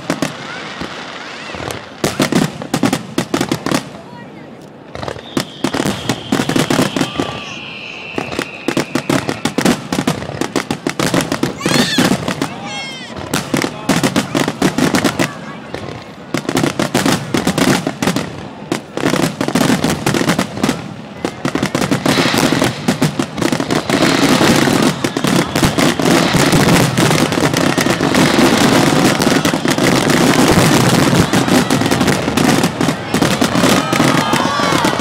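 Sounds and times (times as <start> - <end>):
fireworks thumps bursts and crackles: 0.0 - 35.0.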